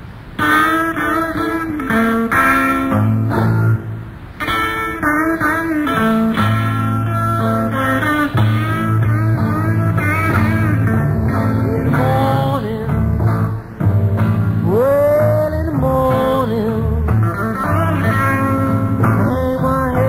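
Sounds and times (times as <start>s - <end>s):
lead guitar bending notes: 0.3s - 20.0s
held bass notes: 0.4s - 20.0s.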